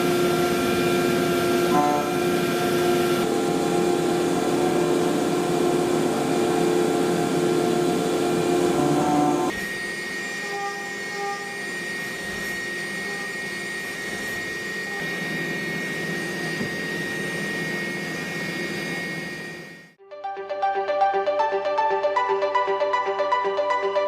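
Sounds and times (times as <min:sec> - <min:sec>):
milling machine cutting with whine: 0:00.0 - 0:20.0.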